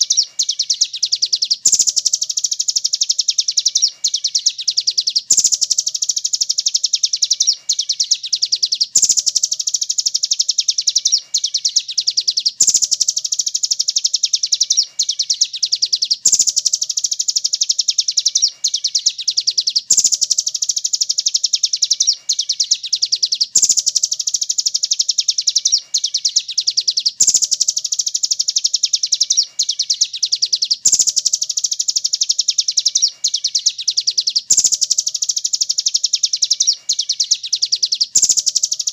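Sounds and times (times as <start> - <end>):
bird high chirping trill: 0.0 - 38.9.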